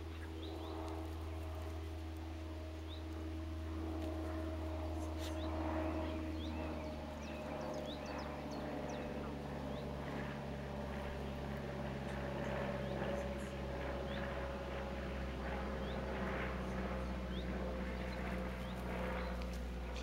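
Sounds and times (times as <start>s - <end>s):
low machine hum: 0.0s - 20.0s
thin steady whine: 0.0s - 20.0s.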